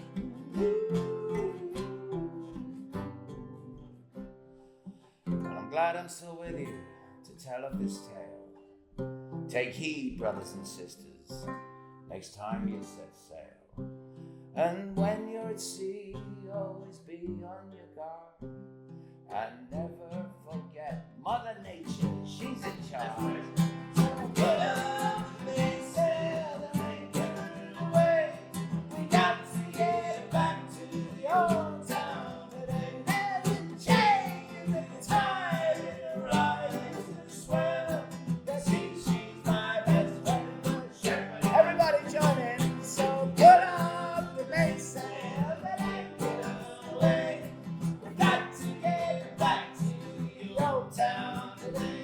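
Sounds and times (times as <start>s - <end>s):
acoustic guitar strumming chords: 0.0s - 17.7s, 18.4s - 52.0s.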